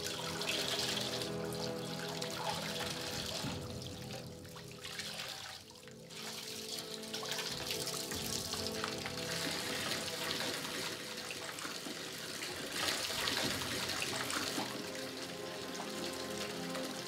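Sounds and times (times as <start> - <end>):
background music: 0.0 - 17.0
water running from a tap: 0.0 - 17.0.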